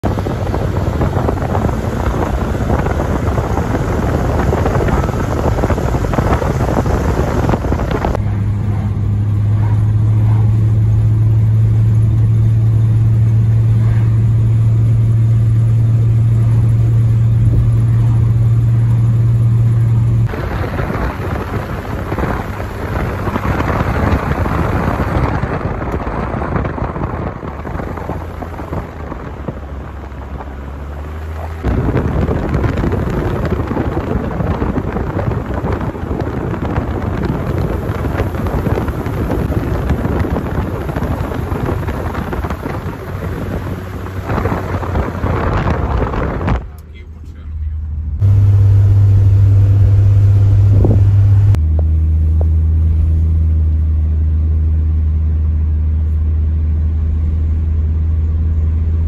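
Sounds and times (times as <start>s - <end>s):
car engine drone in cabin: 0.0s - 59.0s
wind and road noise rushing: 0.0s - 59.0s.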